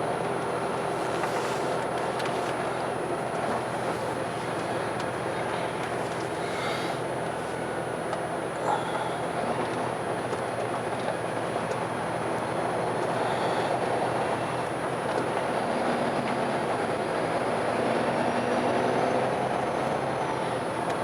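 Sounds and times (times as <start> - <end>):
vehicle rumbling in motion: 0.0 - 21.0.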